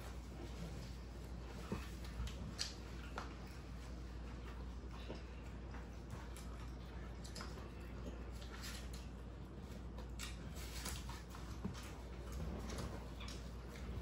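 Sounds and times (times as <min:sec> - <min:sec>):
low steady hum: 0:00.0 - 0:14.0
people chewing food: 0:00.0 - 0:14.0.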